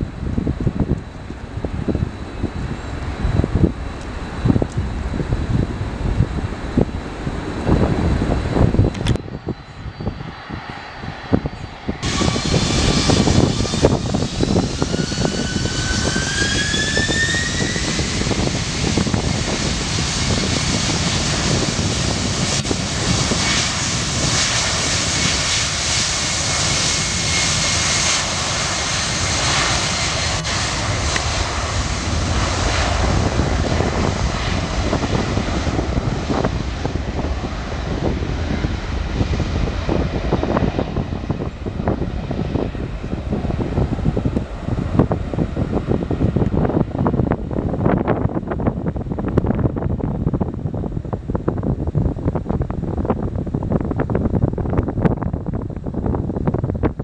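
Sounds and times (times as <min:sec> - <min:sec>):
jet engines spooling up: 0:00.0 - 0:48.2
jet roar: 0:00.0 - 0:57.0.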